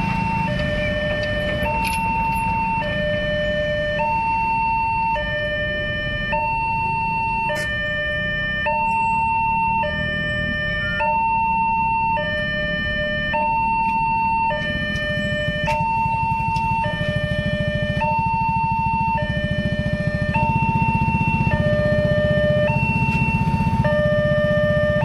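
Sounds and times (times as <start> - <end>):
vehicles idling low rumble: 0.0 - 6.1, 8.8 - 25.0
level-crossing two-tone alarm: 0.0 - 25.0.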